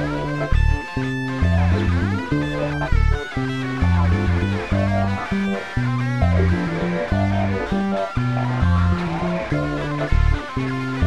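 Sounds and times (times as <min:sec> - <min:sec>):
bass line: 0:00.0 - 0:11.0
guitar music: 0:00.0 - 0:11.0.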